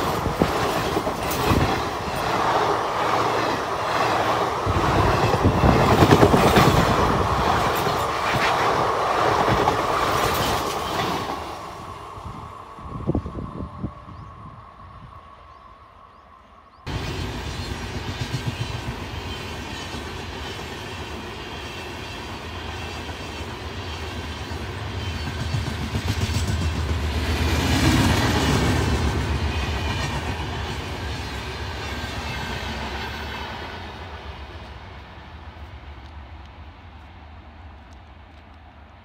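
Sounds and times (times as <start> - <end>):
train wheels rushing on rail: 0.0 - 14.9, 16.9 - 39.0.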